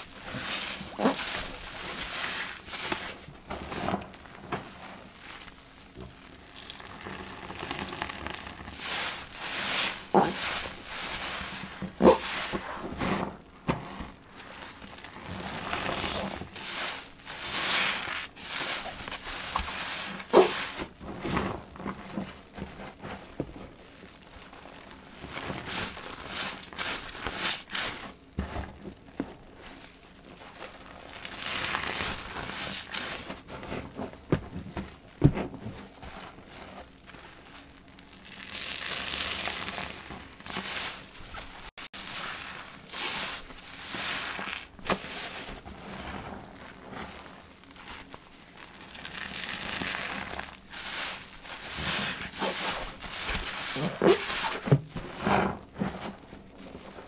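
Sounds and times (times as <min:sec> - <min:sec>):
wet sponge squelching: 0:00.0 - 0:28.6, 0:35.2 - 0:57.0.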